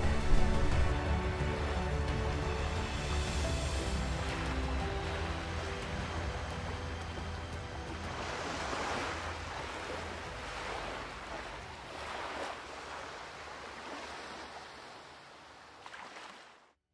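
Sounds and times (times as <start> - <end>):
sea waves washing onto shore: 0.0 - 16.6.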